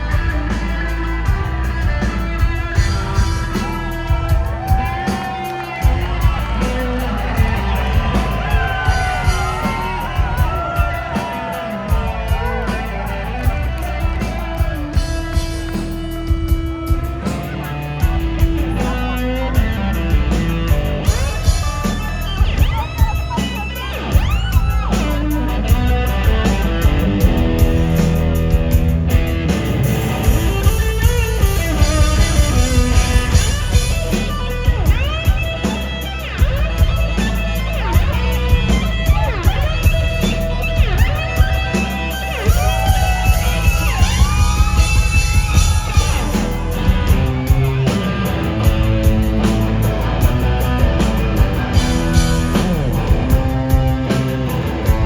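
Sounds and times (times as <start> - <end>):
driving rock drums: 0.0 - 55.0
electric guitar lead with bent notes: 0.0 - 55.0.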